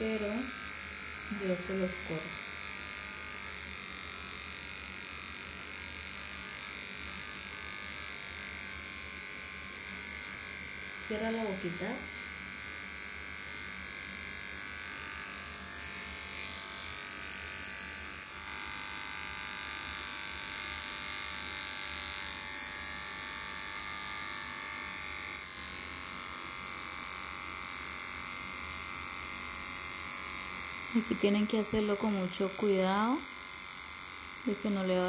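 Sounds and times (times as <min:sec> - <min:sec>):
electric hair clipper running: 0:00.0 - 0:35.0.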